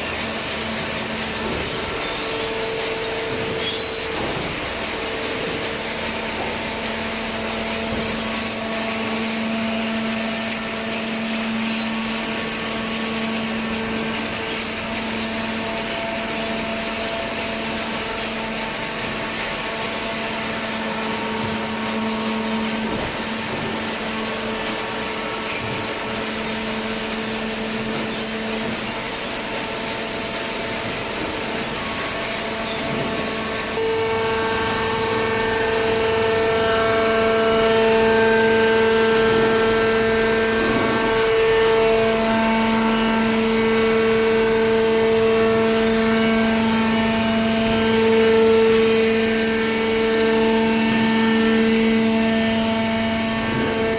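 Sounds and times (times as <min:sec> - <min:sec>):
paper baler machine humming: 0:00.0 - 0:53.9.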